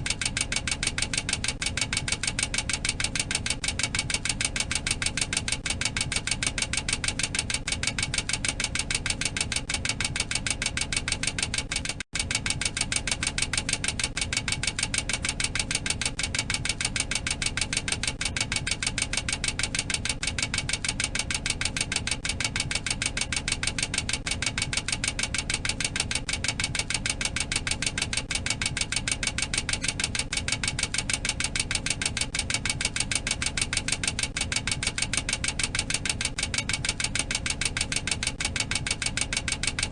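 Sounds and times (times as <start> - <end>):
rapid mechanical warning clacking: 0.0 - 39.9.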